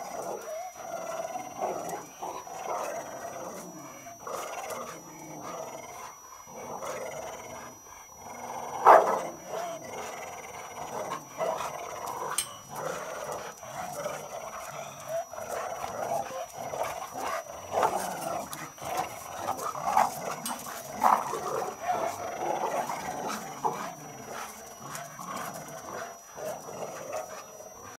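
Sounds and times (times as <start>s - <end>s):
dogs growling: 0.0s - 28.0s.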